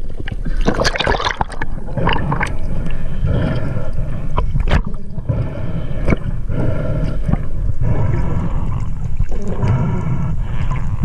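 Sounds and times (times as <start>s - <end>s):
underwater water rush and gurgle: 0.0s - 11.0s.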